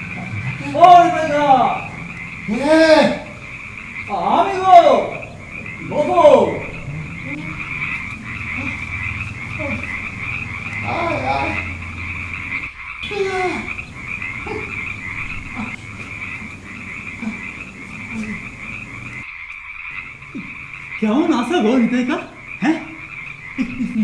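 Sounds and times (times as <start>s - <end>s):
frogs croaking: 0.0s - 24.0s.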